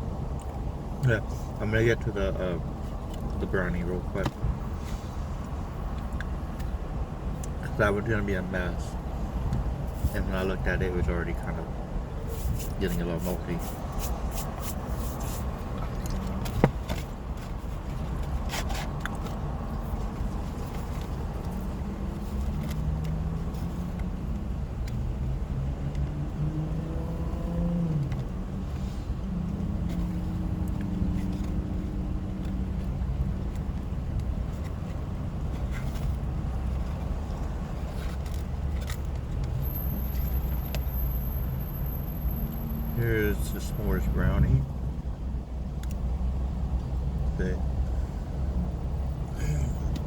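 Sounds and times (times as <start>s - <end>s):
car interior rumble: 0.0s - 50.0s.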